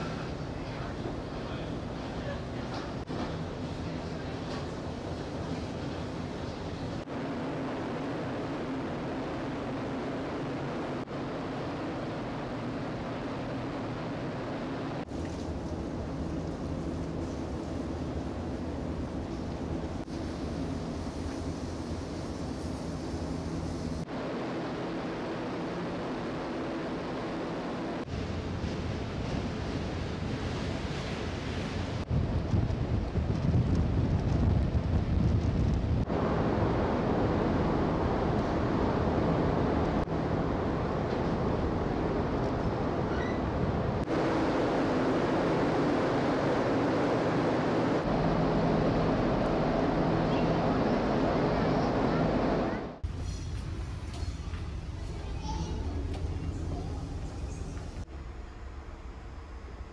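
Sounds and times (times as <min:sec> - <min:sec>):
ferry engine rumble and hum: 0:00.0 - 0:59.9
wind and water rushing: 0:02.9 - 0:53.0.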